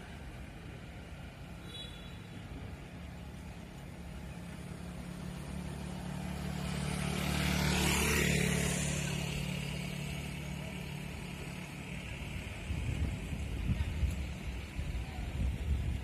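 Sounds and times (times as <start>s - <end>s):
distant traffic hum: 0.0s - 16.0s
motorbike passing: 0.0s - 16.0s.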